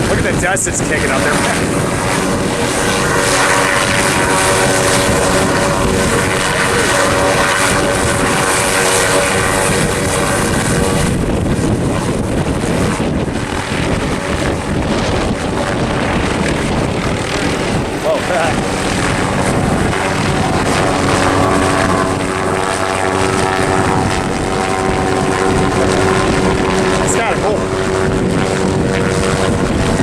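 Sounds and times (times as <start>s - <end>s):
helicopter rotor noise and whine: 0.0s - 30.0s
wind buffeting microphone: 0.0s - 30.0s.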